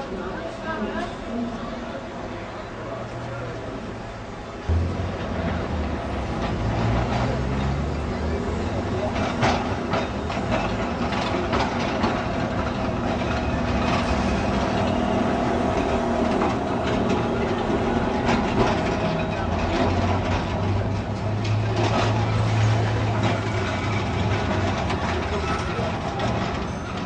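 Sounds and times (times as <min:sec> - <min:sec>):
tram rumbling on rails: 0:00.0 - 0:27.0.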